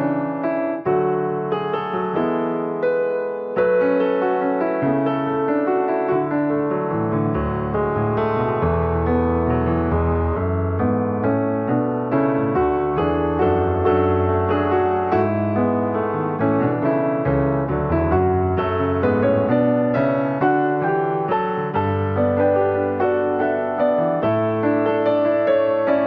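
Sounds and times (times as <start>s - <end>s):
slow piano piece: 0.0s - 26.0s.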